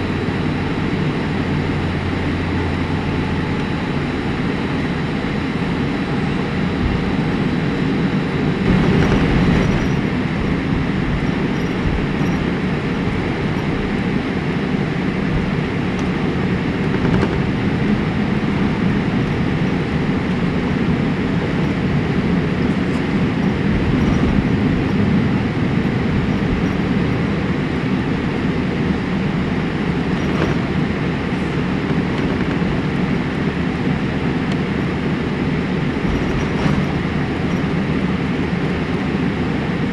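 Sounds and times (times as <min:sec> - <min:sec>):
aircraft engines idling: 0:00.0 - 0:39.9
wheels rolling: 0:05.6 - 0:39.9.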